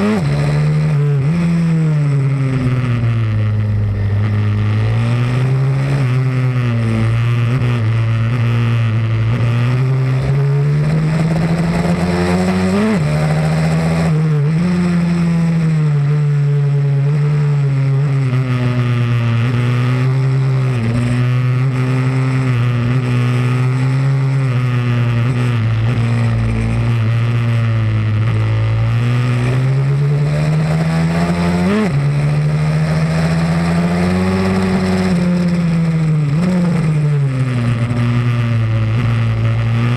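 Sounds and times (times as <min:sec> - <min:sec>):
pit bike engine revving: 0:00.0 - 0:16.4, 0:17.1 - 0:39.9.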